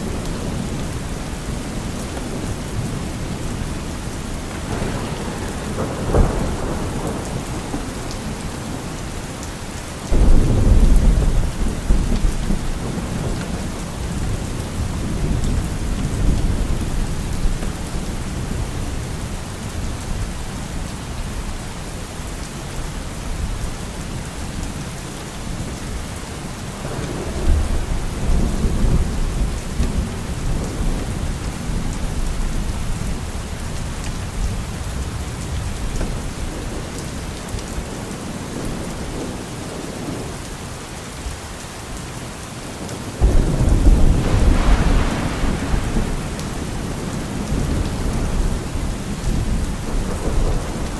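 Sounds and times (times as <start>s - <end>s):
thunder rumbling: 0.0s - 20.2s, 26.7s - 40.3s, 43.2s - 50.9s
steady rain falling: 0.0s - 50.9s.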